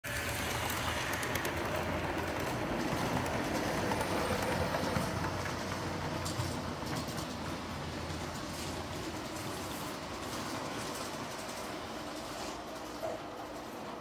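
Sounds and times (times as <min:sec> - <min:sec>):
wheels clicking on rails: 0:00.0 - 0:14.0.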